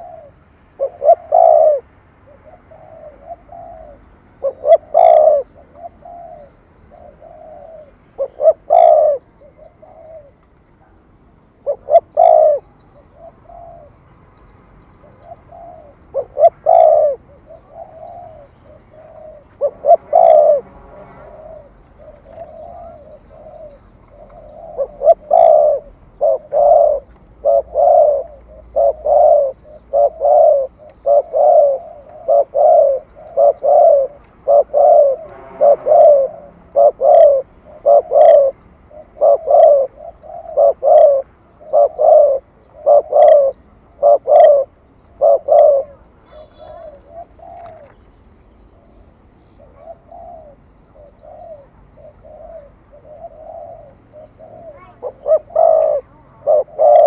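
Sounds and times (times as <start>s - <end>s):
dove cooing: 0.0s - 14.0s, 14.9s - 48.1s, 48.7s - 57.0s.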